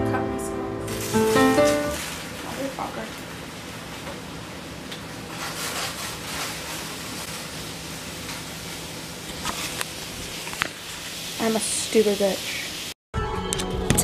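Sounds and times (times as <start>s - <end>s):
liquid bubbling and sizzling: 0.9s - 13.0s.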